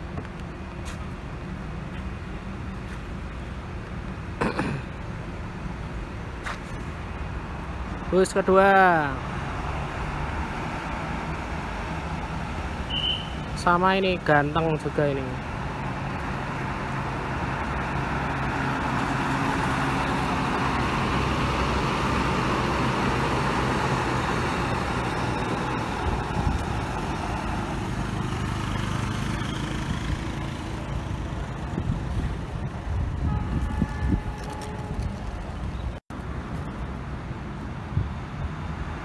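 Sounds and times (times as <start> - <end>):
diesel bus engine: 0.0 - 39.0
faint traffic: 0.0 - 39.0.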